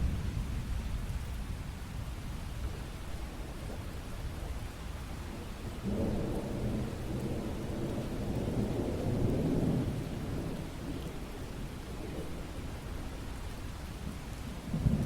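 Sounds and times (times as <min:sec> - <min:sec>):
low thunder rumble: 0:00.0 - 0:04.6, 0:05.3 - 0:13.3, 0:14.0 - 0:15.0
steady rain: 0:00.0 - 0:15.0.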